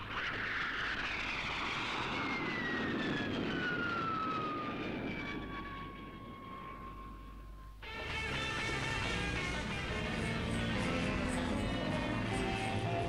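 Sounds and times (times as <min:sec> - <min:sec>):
jet rushing with falling whine: 0:00.0 - 0:13.0.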